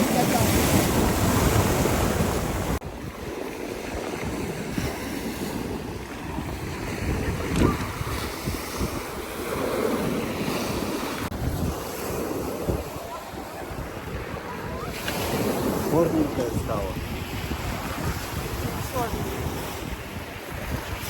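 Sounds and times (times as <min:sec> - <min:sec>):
rough surf washing onto shore: 0:00.0 - 0:21.0
wind buffeting microphone: 0:00.0 - 0:21.0.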